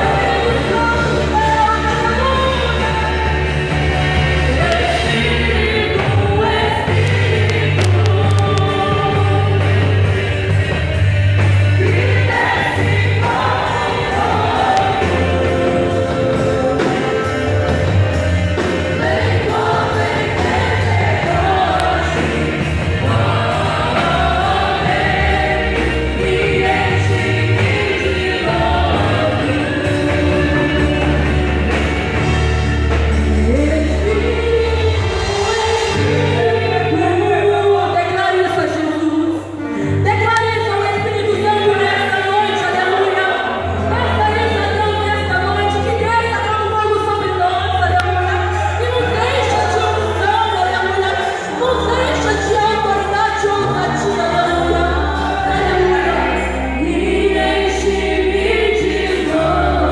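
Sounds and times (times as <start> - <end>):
group of singers: 0.0 - 59.9
worship band playing: 0.0 - 59.9.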